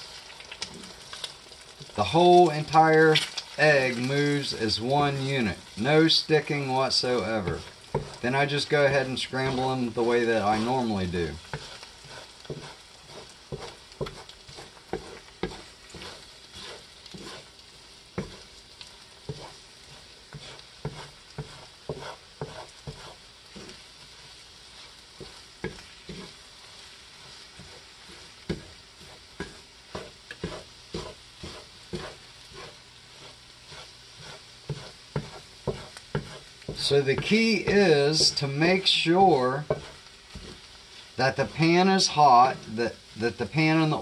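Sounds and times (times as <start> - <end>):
eggs sizzling in hot oil: 0.0 - 44.0
wooden spatula scraping skillet: 0.0 - 44.0.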